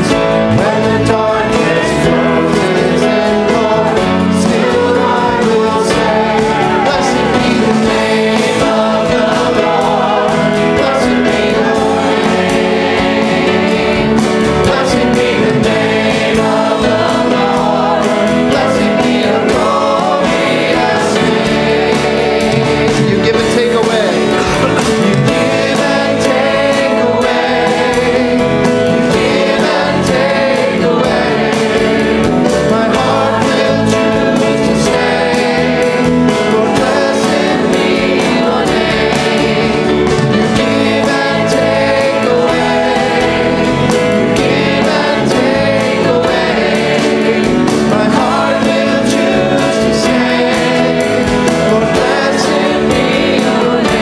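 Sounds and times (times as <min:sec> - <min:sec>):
choir and congregation singing hymn: 0:00.0 - 0:54.0
instrumental accompaniment: 0:00.0 - 0:54.0.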